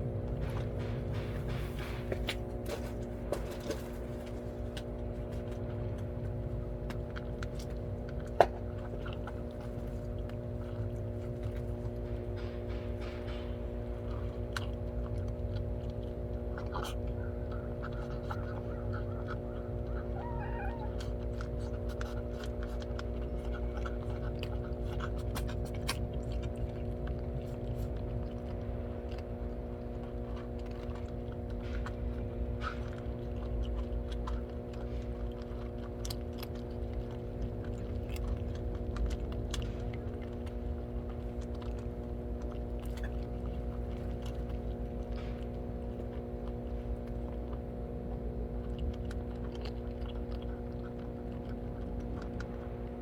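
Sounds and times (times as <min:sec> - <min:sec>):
cats crunching food: 0:00.0 - 0:53.0
steady low hum: 0:00.0 - 0:53.0.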